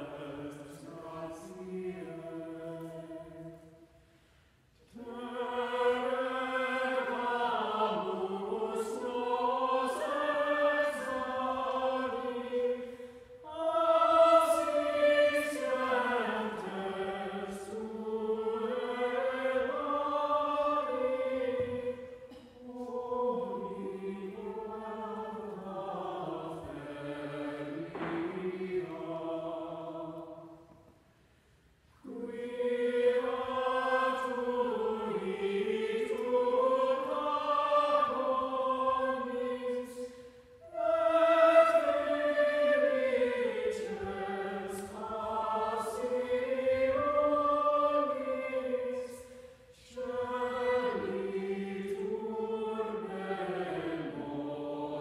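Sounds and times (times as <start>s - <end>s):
mixed choir singing a cappella: 0.0s - 3.9s, 4.8s - 31.0s, 32.0s - 55.0s.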